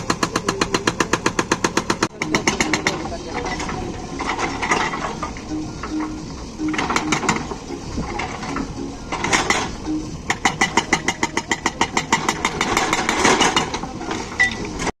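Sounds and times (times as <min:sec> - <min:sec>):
hydraulic breaker hammering: 0:00.0 - 0:14.9
diesel engine running: 0:00.0 - 0:15.0
metal clanks and knocks: 0:00.0 - 0:15.0.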